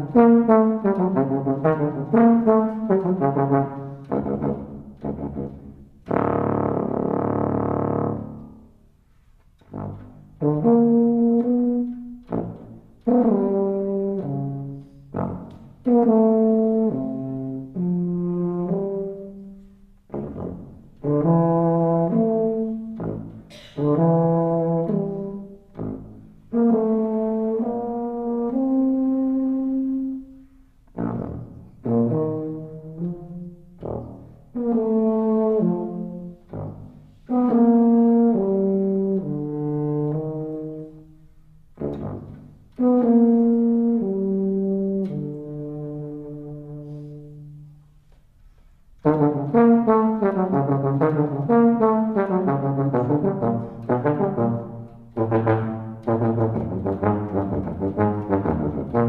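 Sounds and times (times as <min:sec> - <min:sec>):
tuba playing held notes: 0:00.0 - 0:09.0, 0:09.6 - 0:59.0.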